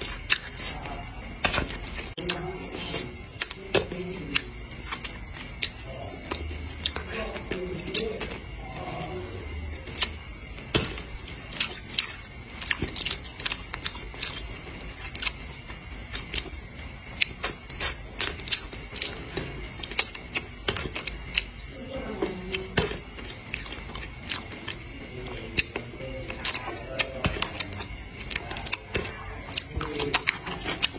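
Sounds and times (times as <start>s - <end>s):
mouth clicks: 0.0s - 30.9s
person chewing crunchy food: 0.0s - 30.9s.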